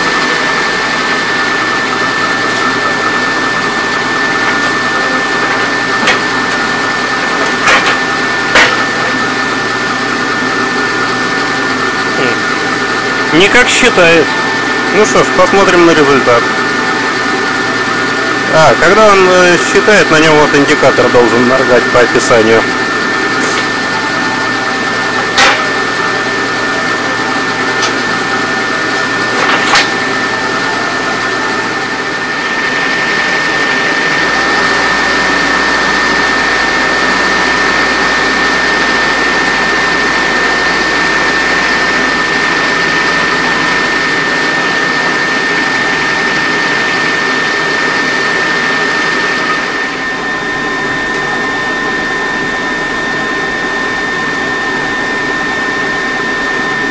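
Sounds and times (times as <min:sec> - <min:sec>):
sped-up engine whine: 0:00.0 - 0:56.9.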